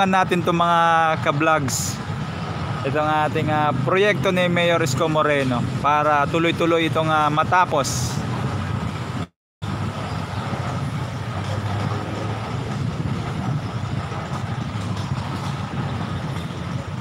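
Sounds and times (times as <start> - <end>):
low rumble of vehicle engines: 0.0 - 17.0.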